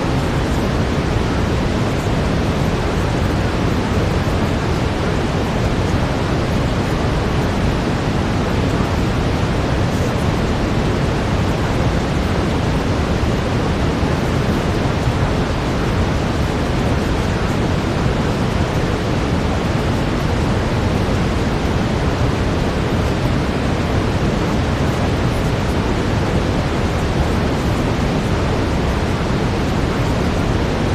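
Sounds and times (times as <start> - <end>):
deep brown noise hiss: 0.0 - 30.9.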